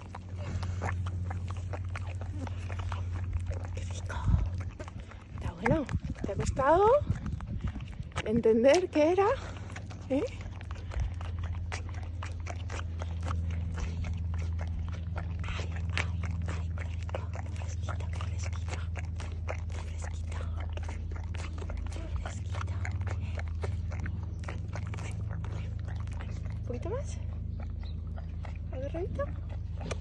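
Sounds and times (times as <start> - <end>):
low hum: 0.0 - 30.0
pony chewing and crunching: 0.0 - 30.0.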